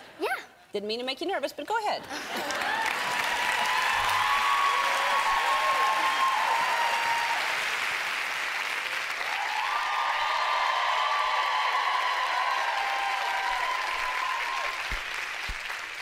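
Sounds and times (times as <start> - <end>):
audience applauding: 2.2 - 16.0.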